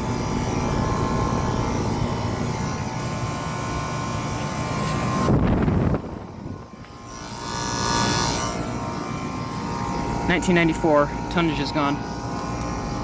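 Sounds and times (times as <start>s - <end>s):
air conditioner compressor running: 0.0s - 13.0s
condenser fan humming: 0.0s - 13.0s.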